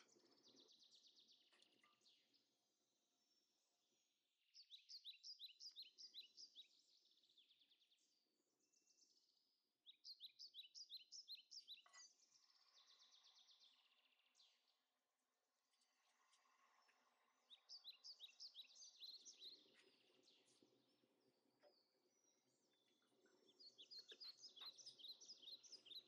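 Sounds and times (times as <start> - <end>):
faint bird song: 0.0 - 26.0.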